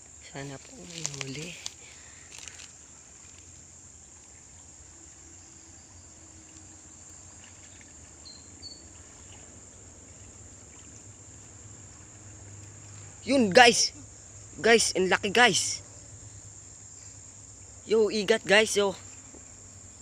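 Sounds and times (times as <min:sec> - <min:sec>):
creek flowing: 0:00.0 - 0:20.0
high insect buzz: 0:00.0 - 0:20.0.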